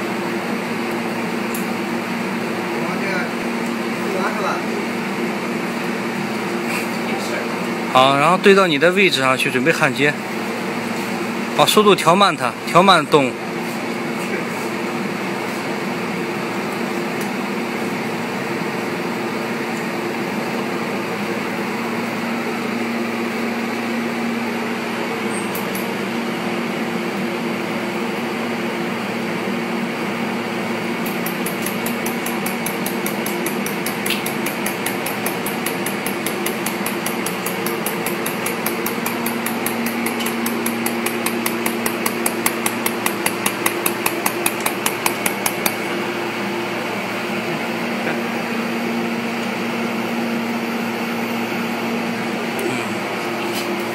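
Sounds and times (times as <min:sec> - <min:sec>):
laser welding machine humming: 0:00.0 - 0:53.9.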